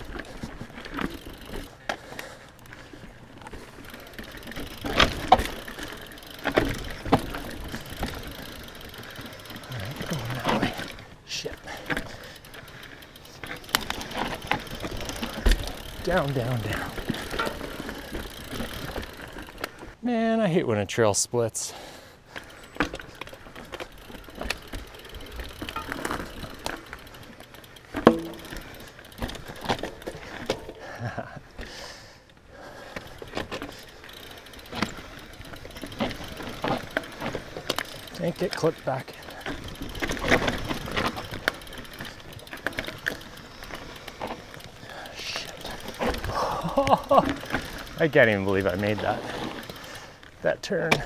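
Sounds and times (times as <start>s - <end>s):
bike knocking and rattling: 0.0s - 20.0s, 22.3s - 51.0s
bike tyres on dirt trail: 0.0s - 20.5s, 21.6s - 51.0s.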